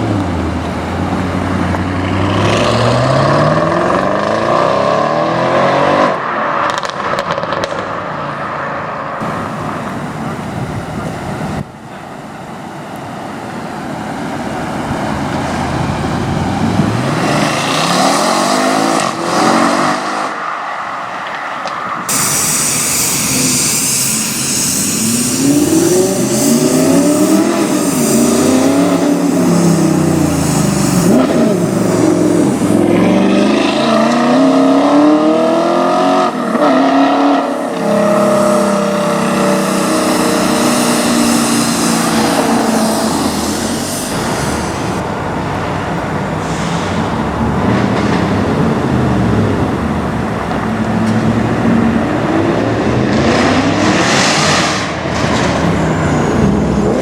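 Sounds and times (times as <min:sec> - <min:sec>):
cars accelerating hard: 0:00.0 - 0:57.0.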